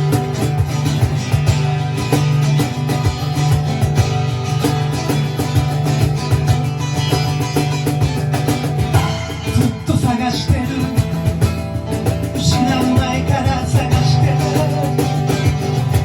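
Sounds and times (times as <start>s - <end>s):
live band playing: 0.0s - 16.0s
strummed guitar: 0.0s - 16.0s.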